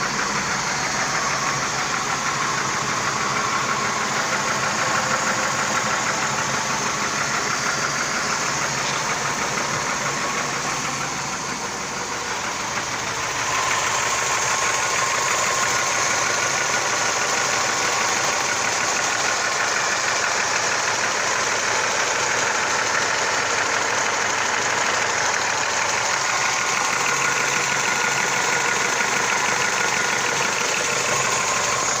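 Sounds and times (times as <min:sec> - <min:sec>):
car engine idling with knocking tick: 0:00.0 - 0:32.0.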